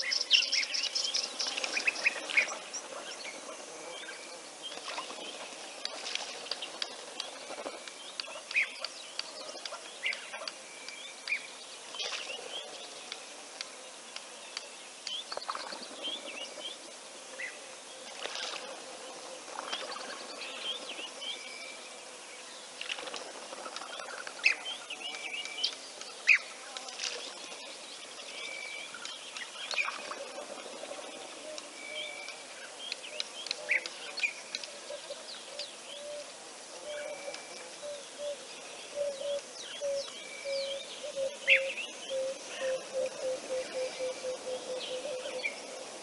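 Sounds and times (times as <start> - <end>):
wild birds chirping: 0.0 - 46.0.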